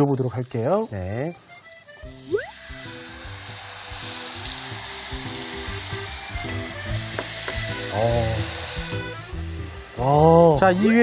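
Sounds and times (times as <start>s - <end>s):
sauce sizzling in hot pan: 0.0s - 11.0s.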